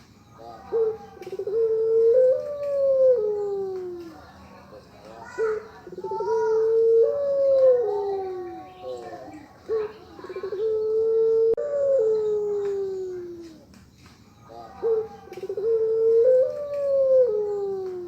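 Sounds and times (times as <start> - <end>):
dove cooing: 0.0 - 4.4, 5.2 - 13.7, 14.5 - 18.0.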